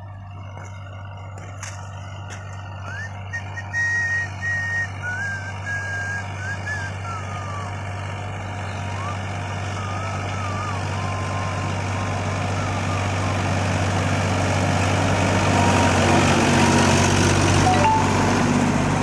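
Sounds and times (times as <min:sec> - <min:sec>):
tractor diesel engine humming: 0:00.0 - 0:19.0.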